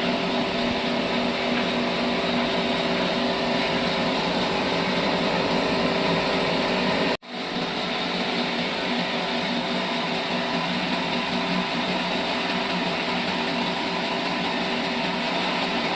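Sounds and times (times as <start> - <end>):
sawmill machinery humming and whining: 0.0 - 15.9.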